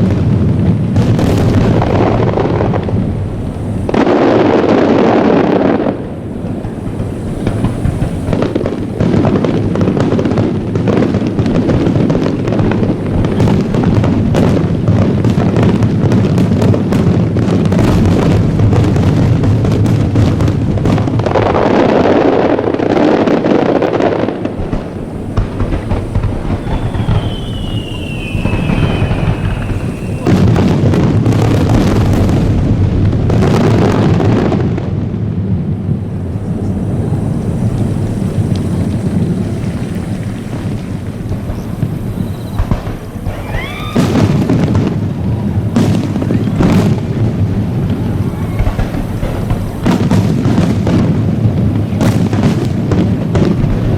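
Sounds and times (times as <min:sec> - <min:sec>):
fireworks booming and crackling: 0:00.0 - 0:53.9.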